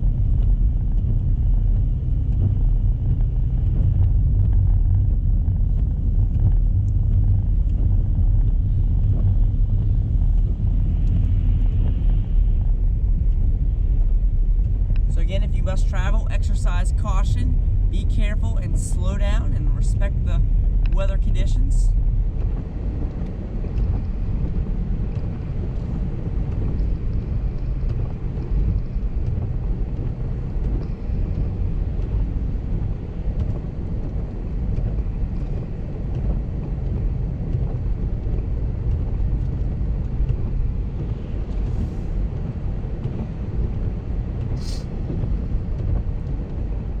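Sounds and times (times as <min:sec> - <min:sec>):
car driving rumble from inside: 0:00.0 - 0:47.0.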